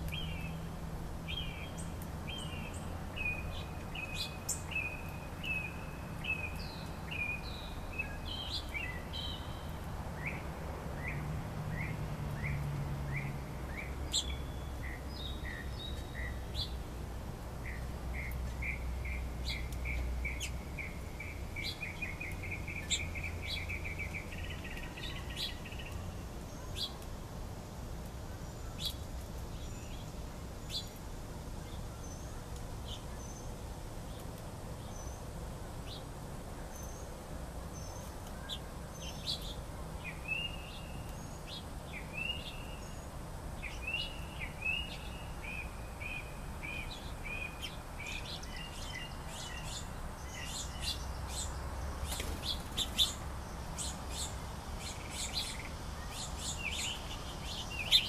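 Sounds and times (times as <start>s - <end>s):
songbird trill: 0.0s - 27.2s, 28.0s - 58.0s.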